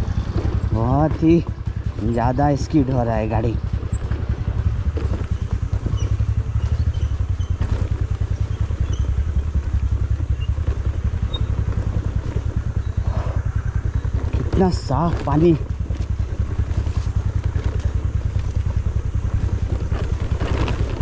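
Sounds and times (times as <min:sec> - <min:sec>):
scooter engine running: 0:00.0 - 0:21.0.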